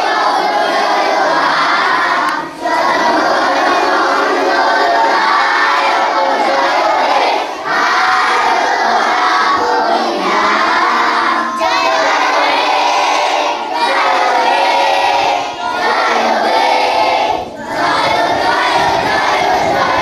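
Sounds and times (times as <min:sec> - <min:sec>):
children singing in unison: 0:00.0 - 0:20.0.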